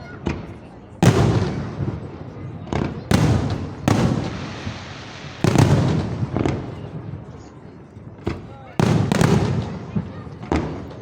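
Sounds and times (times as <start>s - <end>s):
fireworks booming: 0.1s - 7.4s, 8.2s - 11.0s.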